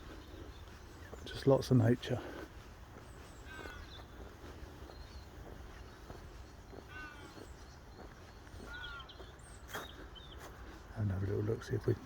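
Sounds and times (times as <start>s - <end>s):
bird harsh calls: 0.0s - 12.0s
footsteps on a path: 0.0s - 12.0s
small birds chirping: 0.0s - 12.0s.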